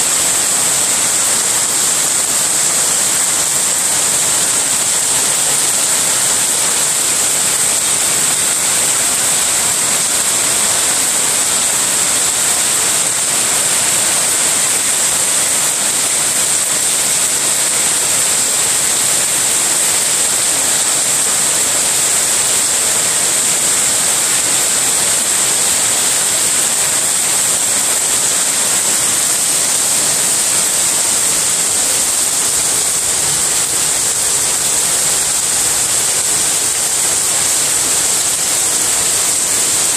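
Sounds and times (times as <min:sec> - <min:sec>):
heavy rain splashing on tiles: 0:00.0 - 0:39.9.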